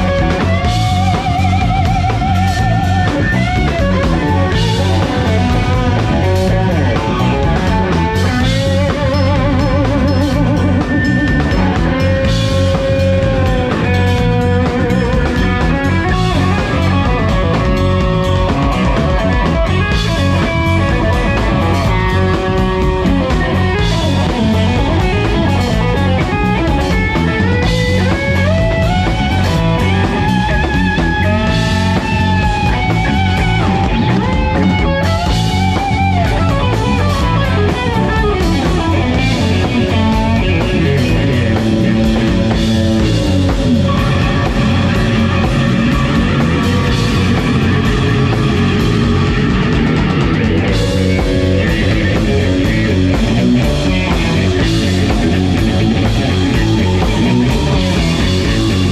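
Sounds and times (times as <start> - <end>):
electric guitar lead: 0.0 - 58.9
rock-jazz band playing: 0.0 - 58.9.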